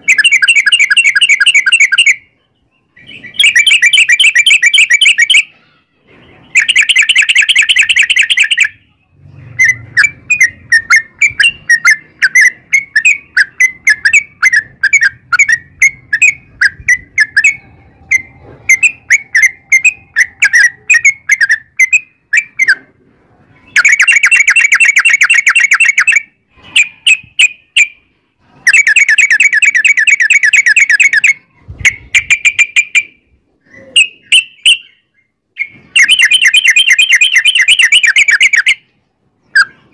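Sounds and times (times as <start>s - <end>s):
bird singing with rapid trills: 0.0s - 39.9s.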